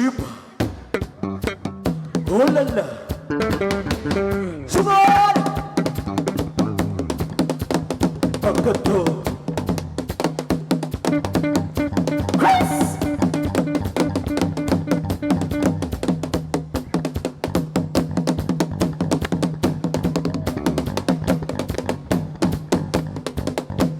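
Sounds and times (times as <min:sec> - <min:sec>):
drum kit and percussion rhythm: 0:00.0 - 0:23.9
bass and guitar: 0:00.6 - 0:23.9.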